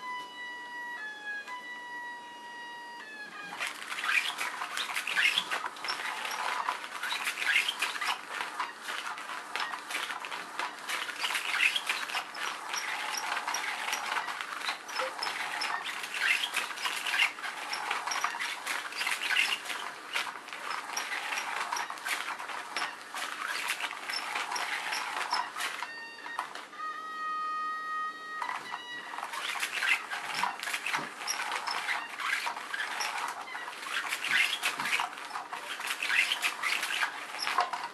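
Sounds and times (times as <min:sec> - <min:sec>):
cat toy rustling and scraping: 0:03.4 - 0:26.6, 0:28.4 - 0:37.9.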